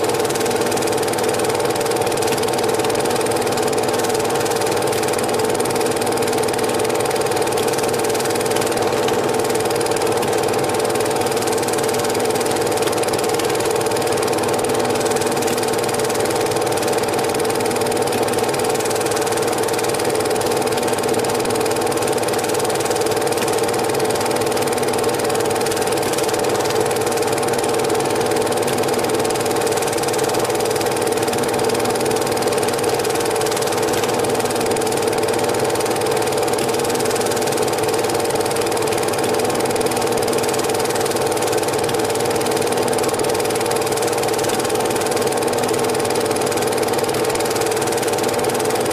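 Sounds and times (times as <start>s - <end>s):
film projector humming: 0.0s - 48.9s.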